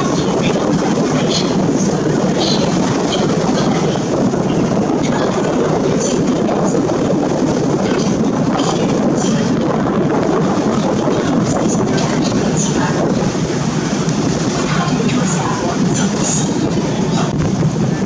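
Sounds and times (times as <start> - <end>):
boat engine running: 0.0 - 18.0
water rushing along hull: 0.0 - 18.0.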